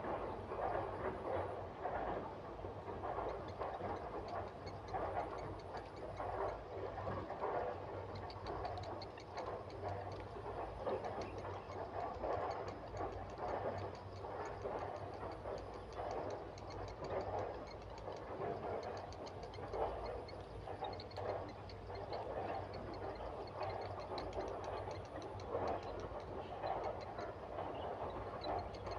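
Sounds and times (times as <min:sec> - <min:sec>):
steady low hum: 0:00.0 - 0:28.9
nestlings ticking calls: 0:03.2 - 0:28.9.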